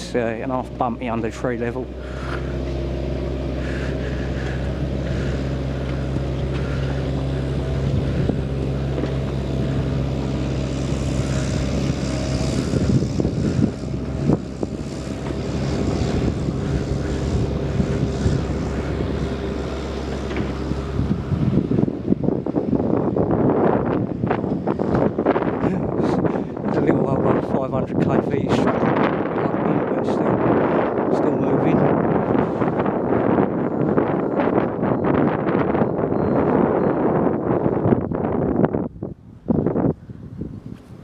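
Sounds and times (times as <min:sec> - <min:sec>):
model plane motor and propeller hum: 0:00.0 - 0:41.0
wind buffeting microphone: 0:00.0 - 0:41.0.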